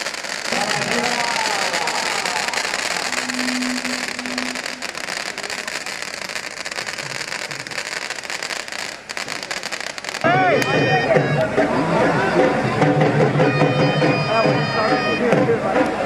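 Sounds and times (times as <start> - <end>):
firecrackers crackling: 0.0 - 13.2.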